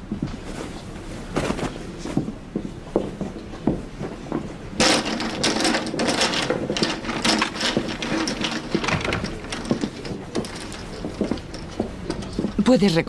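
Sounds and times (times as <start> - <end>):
clattering and rustling: 0.2 - 2.3, 3.0 - 13.0.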